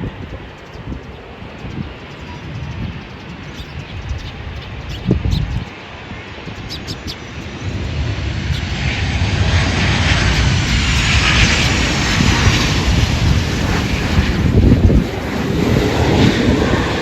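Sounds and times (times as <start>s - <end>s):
airliner engines passing: 0.0s - 17.0s
wind rumble on microphone: 0.0s - 17.0s.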